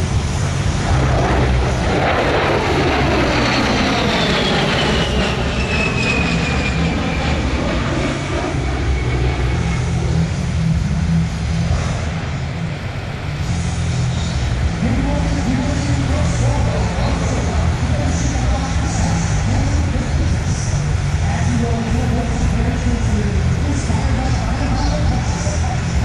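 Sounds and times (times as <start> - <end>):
jet aircraft passing overhead: 0.0 - 26.0.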